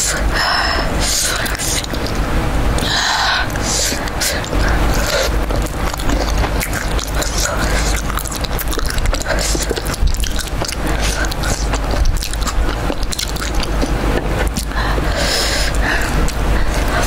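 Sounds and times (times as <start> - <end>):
wet mouth clicks: 1.2 - 2.2, 2.8 - 17.0
biting and chewing food: 1.3 - 2.2, 2.8 - 17.0.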